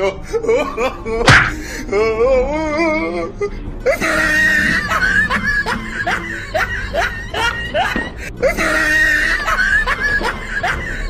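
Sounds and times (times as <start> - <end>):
comic music with squealing notes: 0.0 - 11.0.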